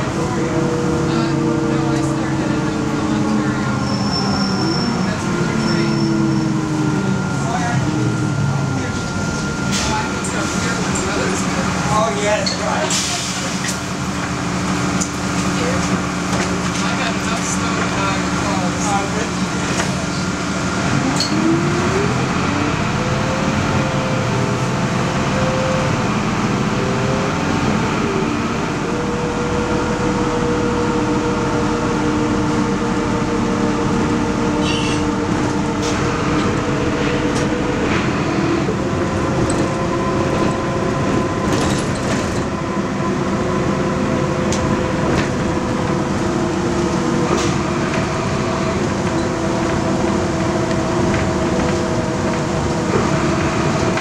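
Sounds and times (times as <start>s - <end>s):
bus drivetrain whine: 0.0s - 54.0s
bus running noise: 0.0s - 54.0s
bus body rattles and clicks: 8.9s - 54.0s.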